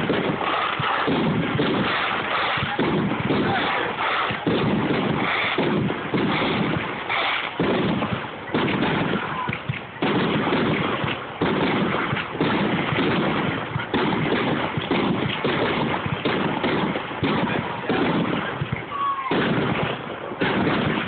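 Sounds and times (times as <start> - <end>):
fireworks bangs: 0.0 - 21.0
fireworks crackling and rumbling: 0.0 - 21.0.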